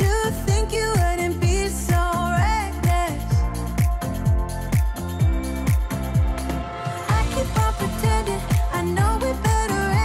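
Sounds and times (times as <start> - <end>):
electronic pop music: 0.0 - 10.0.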